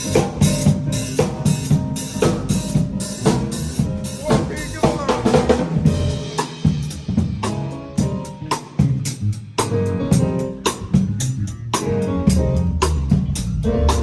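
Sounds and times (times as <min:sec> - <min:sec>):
bass guitar: 0:00.0 - 0:14.0
drum kit beat: 0:00.0 - 0:14.0
keyboard chords: 0:00.0 - 0:14.0.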